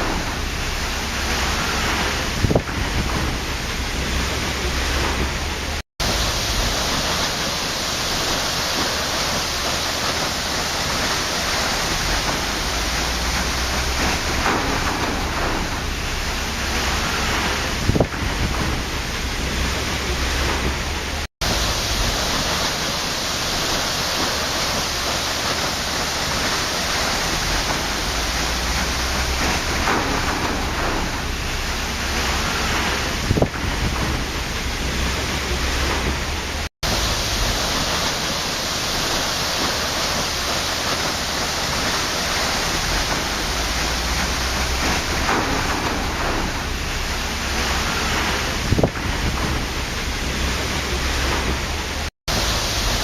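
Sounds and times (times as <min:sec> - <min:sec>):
faint water splashes: 0:00.0 - 0:53.0
waterfall rushing: 0:00.0 - 0:53.0.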